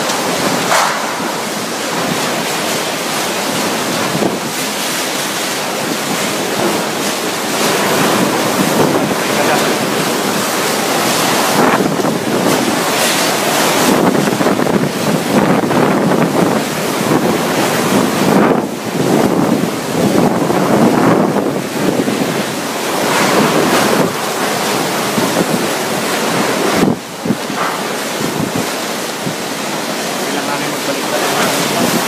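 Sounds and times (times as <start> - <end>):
driving rain: 0.0 - 32.0
strong gusting wind: 0.0 - 32.0
wind buffeting microphone: 0.0 - 32.0.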